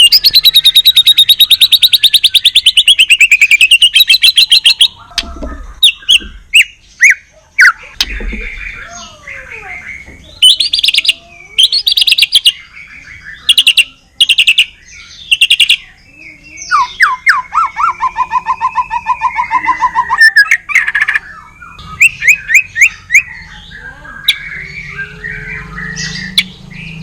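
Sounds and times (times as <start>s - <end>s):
songbird singing loudly: 0.0s - 27.0s.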